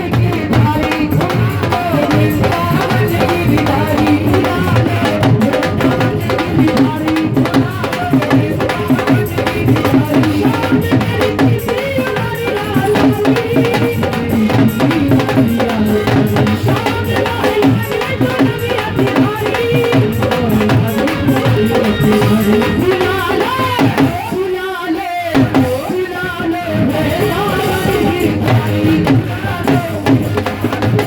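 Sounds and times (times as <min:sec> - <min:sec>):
devotional melody: 0:00.0 - 0:31.0
drum and rattle percussion: 0:00.0 - 0:31.0.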